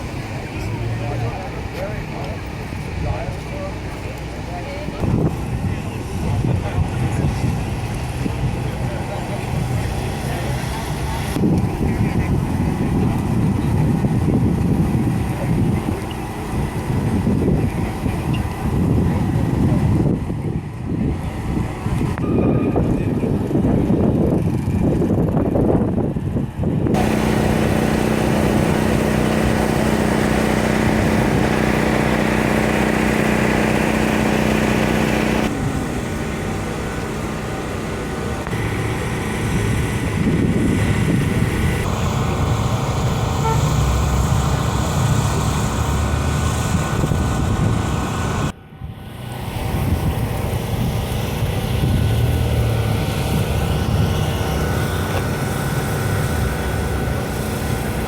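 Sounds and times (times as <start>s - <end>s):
car engines running: 0.0s - 58.0s.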